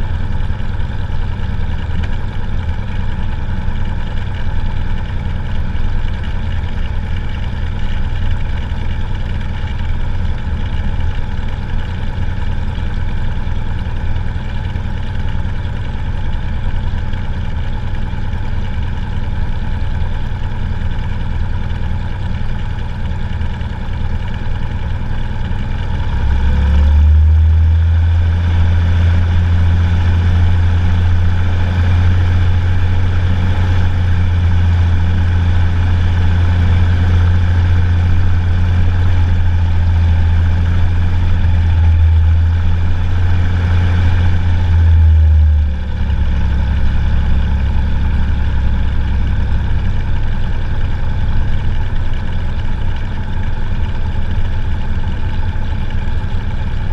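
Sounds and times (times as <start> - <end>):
deeper engine drone: 0.0 - 56.9
piston aircraft engine: 0.0 - 56.9.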